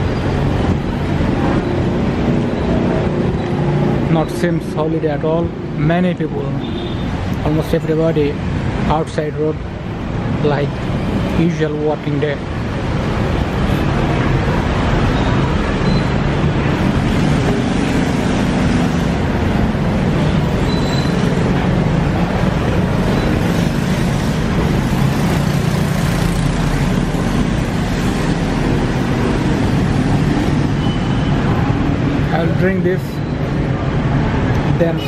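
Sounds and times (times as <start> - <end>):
motorbikes passing: 0.0 - 35.0
street traffic rumble: 0.0 - 35.0.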